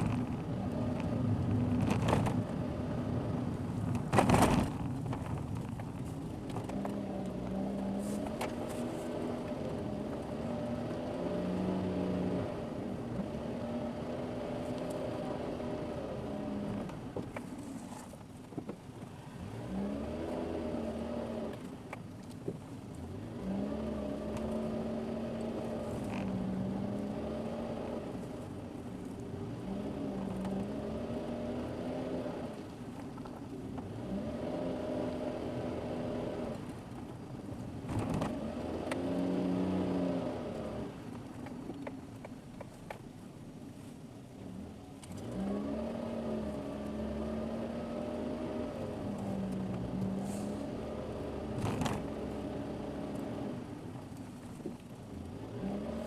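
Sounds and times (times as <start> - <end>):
car engine accelerating: 0.0 - 17.8, 19.2 - 41.9, 44.5 - 56.0
road and tyre noise: 0.0 - 56.0.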